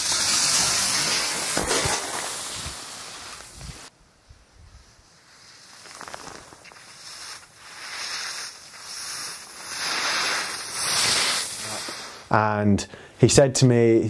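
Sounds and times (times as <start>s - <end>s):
skis scraping over snow: 0.0s - 3.9s, 4.8s - 12.3s.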